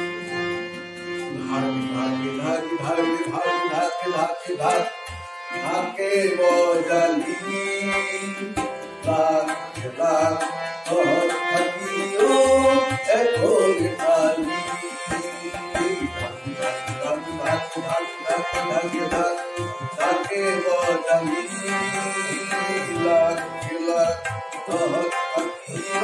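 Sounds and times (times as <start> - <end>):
harmonium: 0.0 - 26.0
man singing into microphone: 1.2 - 26.0.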